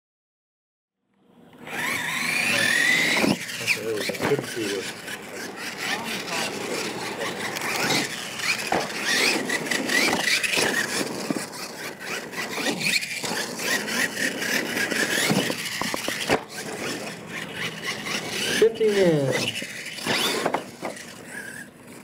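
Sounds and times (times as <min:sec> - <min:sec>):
toy truck motor whining: 0:01.4 - 0:22.0.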